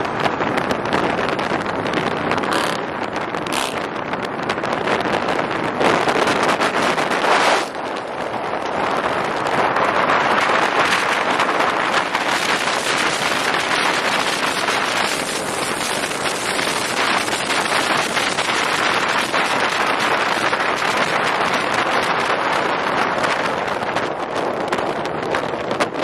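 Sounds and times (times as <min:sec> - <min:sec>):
wind and road noise in car: 0:00.0 - 0:26.0.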